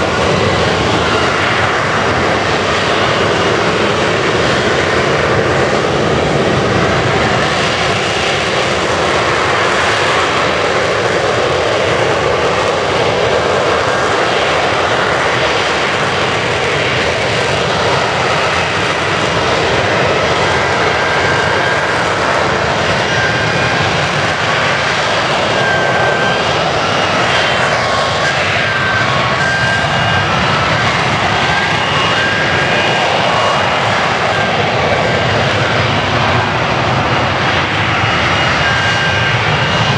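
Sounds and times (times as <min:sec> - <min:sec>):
jet roar: 0:00.0 - 0:39.9.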